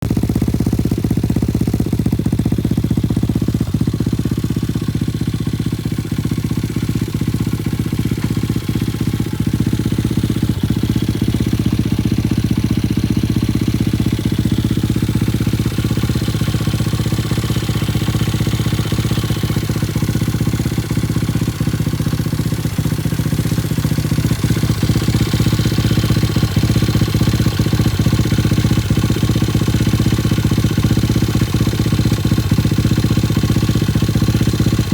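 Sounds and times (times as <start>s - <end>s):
small engine idling: 0.0s - 34.9s.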